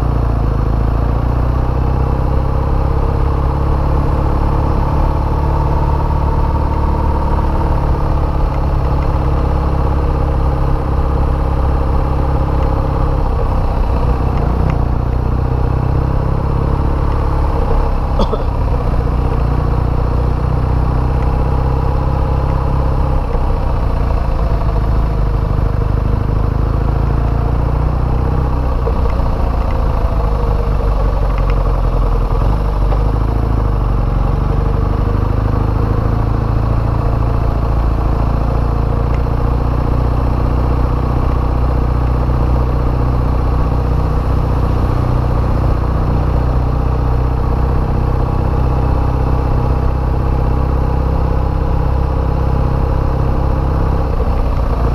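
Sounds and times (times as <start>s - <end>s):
motorcycle engine drone: 0.0s - 54.9s.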